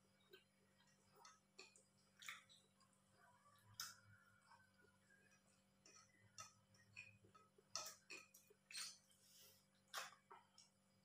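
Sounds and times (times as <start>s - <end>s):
man chewing and eating: 0.0s - 11.0s.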